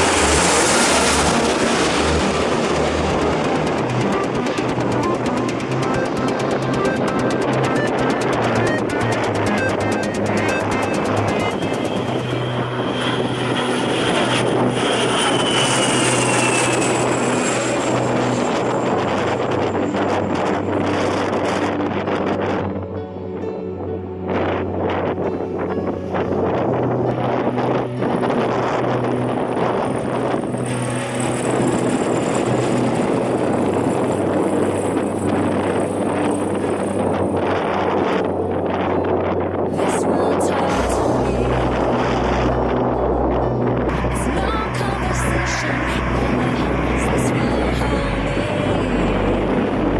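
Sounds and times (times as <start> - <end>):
jet airliner passing: 0.0 - 22.9, 24.4 - 49.9
wind buffeting microphone: 0.0 - 49.9.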